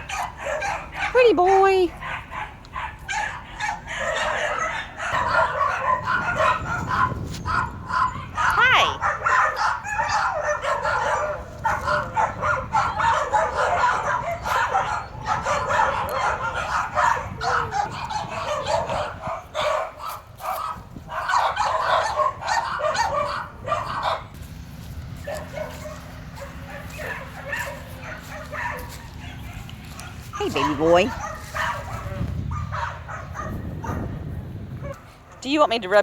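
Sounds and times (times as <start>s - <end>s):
dogs barking and yipping: 0.0s - 36.0s.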